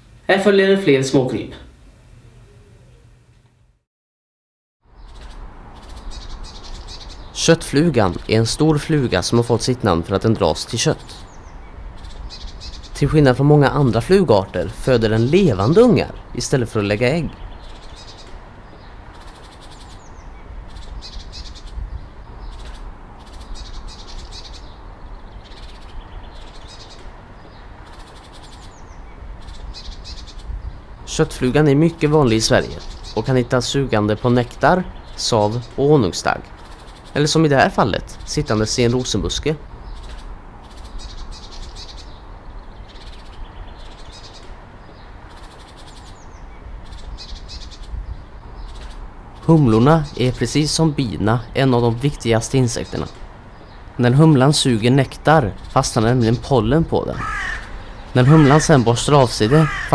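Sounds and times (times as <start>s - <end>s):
steady low rumble: 4.9s - 45.4s, 46.1s - 54.5s.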